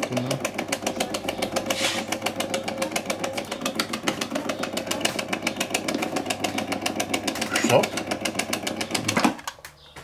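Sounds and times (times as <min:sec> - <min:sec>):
paddle drive knocking rapidly: 0:00.0 - 0:09.3
machine motor hum: 0:00.0 - 0:09.4.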